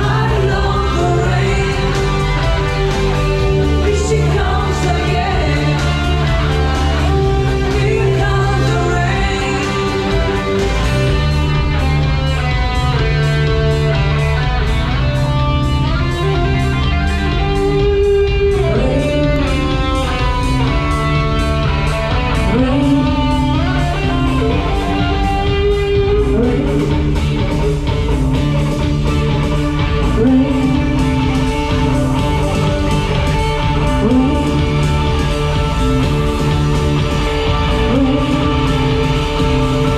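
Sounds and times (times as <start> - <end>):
electric guitar music: 0.0 - 39.9.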